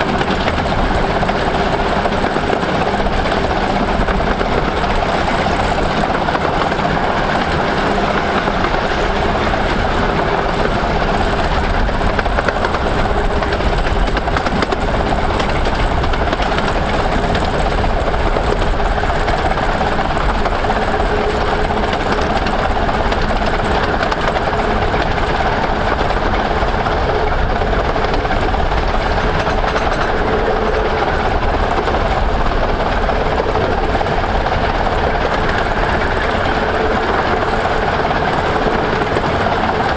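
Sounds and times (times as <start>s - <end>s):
steam train rumbling along: 0.0s - 39.9s.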